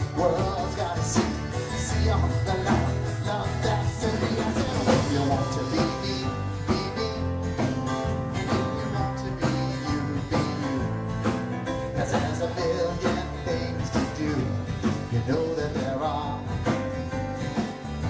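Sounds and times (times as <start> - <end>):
acoustic guitar: 0.0 - 18.0
drum kit: 0.0 - 18.0
electric upright bass: 0.0 - 18.0
keyboards: 0.0 - 18.0.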